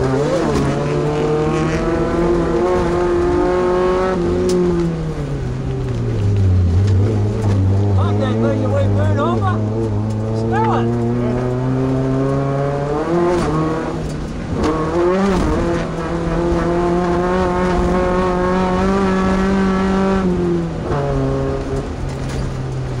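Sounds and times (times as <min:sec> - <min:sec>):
race truck engine revving: 0:00.0 - 0:23.0.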